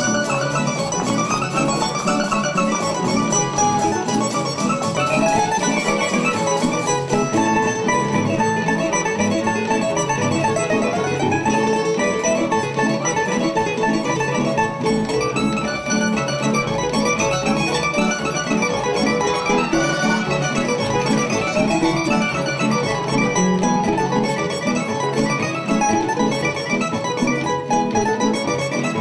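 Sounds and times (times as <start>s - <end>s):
string band playing folk dance tune: 0.0s - 29.0s.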